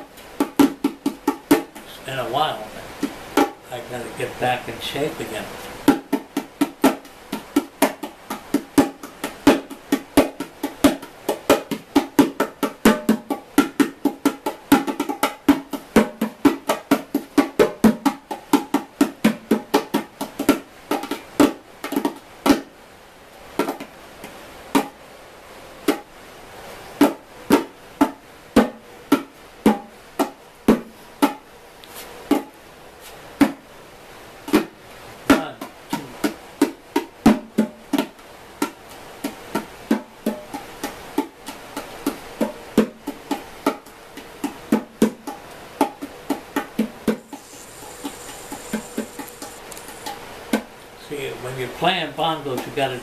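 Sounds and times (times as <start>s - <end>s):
bongos played by hand: 0.0s - 3.7s, 5.2s - 22.8s, 23.6s - 25.0s, 25.8s - 26.1s, 27.0s - 31.5s, 32.2s - 32.6s, 33.4s - 33.6s, 34.4s - 50.8s.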